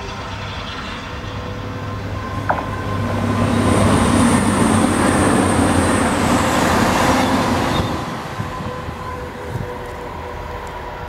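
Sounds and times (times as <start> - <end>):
steam locomotive rushing past: 0.0 - 11.0.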